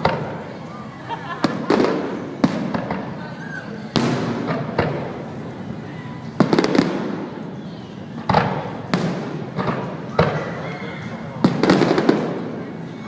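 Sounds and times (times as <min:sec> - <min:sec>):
fireworks bursting with sharp bangs: 0:00.0 - 0:00.7, 0:01.4 - 0:13.0.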